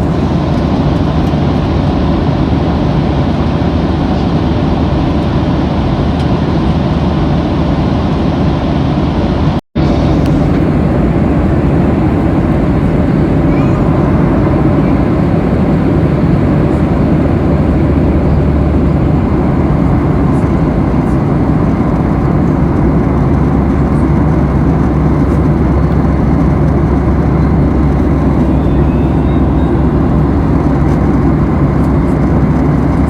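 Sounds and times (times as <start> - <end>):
airliner cabin roar: 0.0 - 33.0.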